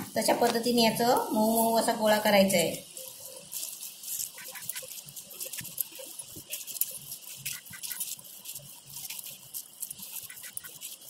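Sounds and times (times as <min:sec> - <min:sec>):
wet squishing of kneaded curd: 0:00.1 - 0:11.0.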